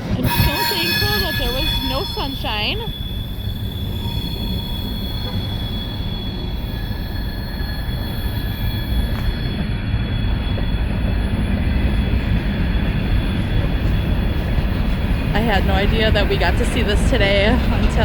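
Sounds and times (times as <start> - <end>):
high wheel squeal: 0.0 - 18.0
train wheels rumbling: 0.0 - 18.0.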